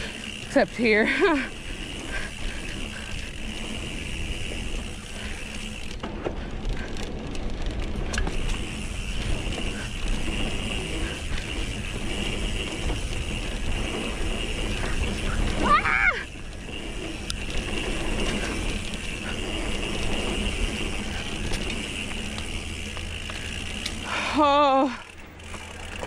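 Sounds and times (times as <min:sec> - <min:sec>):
bike clicks and rattles: 0:00.0 - 0:26.0
tyres rumbling on dirt: 0:00.0 - 0:26.0.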